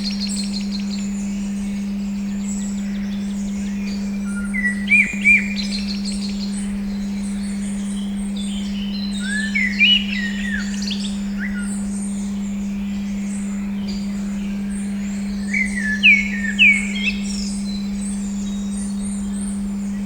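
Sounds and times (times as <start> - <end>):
birdsong: 0.0 - 20.0
steady pure tone: 0.0 - 20.0.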